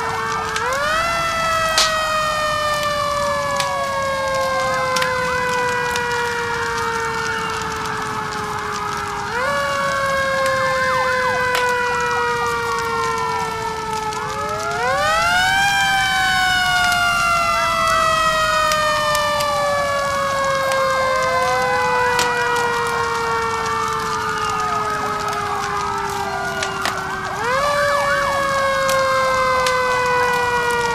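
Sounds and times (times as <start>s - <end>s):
fire crackling: 0.0s - 30.9s
fire truck sirens wailing: 0.0s - 30.9s.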